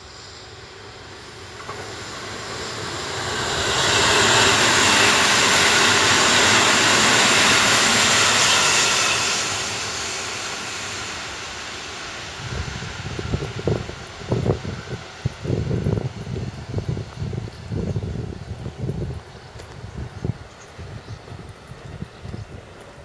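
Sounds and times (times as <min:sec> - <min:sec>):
electric train passing: 0:00.0 - 0:23.0.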